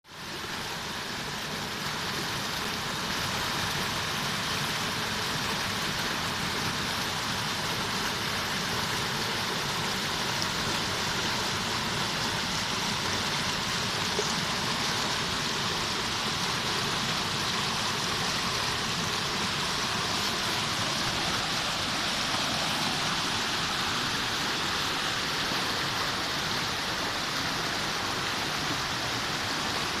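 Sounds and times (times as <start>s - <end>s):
river water rushing: 0.1s - 30.0s.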